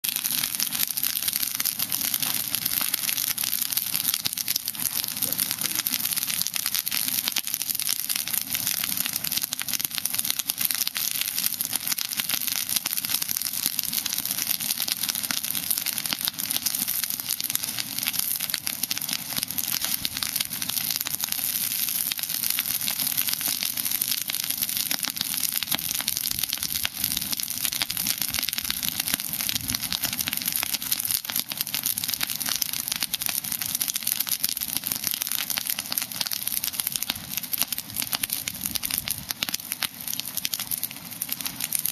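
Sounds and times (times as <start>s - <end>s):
brush fire crackling: 0.0s - 41.9s.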